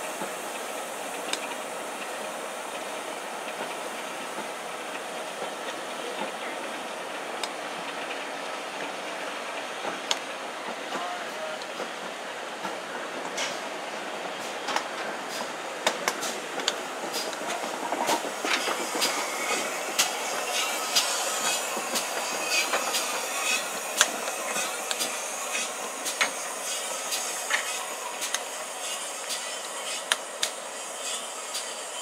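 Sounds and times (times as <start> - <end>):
train running past: 0.0 - 32.0.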